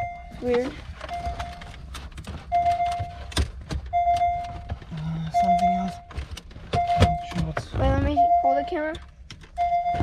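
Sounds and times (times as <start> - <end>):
car warning chime beeping: 0.0 - 1.8, 2.5 - 3.3, 3.9 - 6.1, 6.7 - 10.0.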